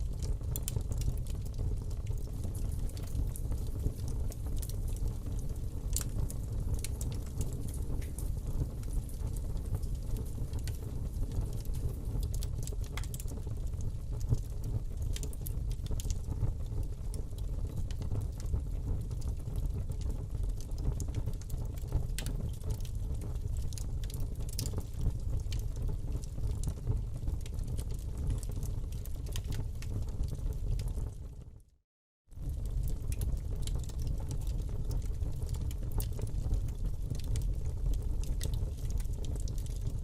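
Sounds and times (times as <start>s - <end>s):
fire rumbling: 0.0s - 31.4s, 32.4s - 40.0s
fire crackles and pops: 0.0s - 31.7s, 32.3s - 40.0s.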